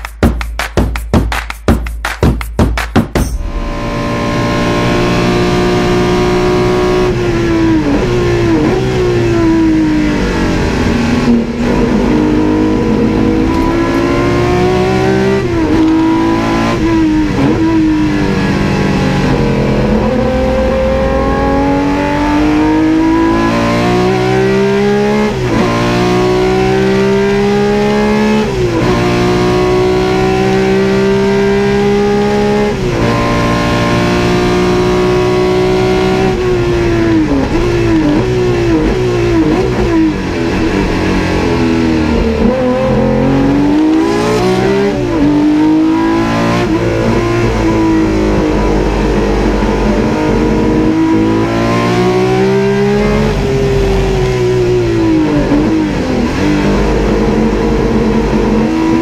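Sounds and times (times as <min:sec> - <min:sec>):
race car engine at full throttle: 0:03.4 - 0:59.0.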